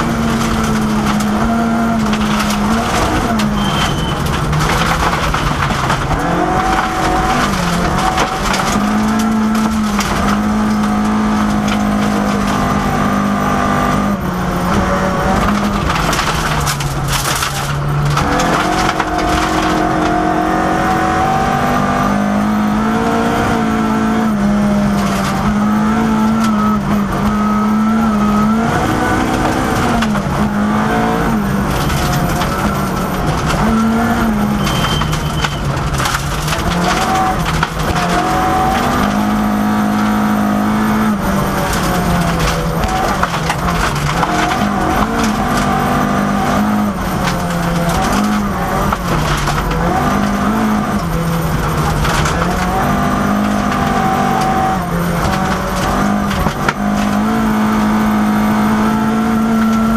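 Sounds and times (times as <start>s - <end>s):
rally car engine at full throttle: 0.0s - 59.9s
rattling noise: 0.0s - 59.9s.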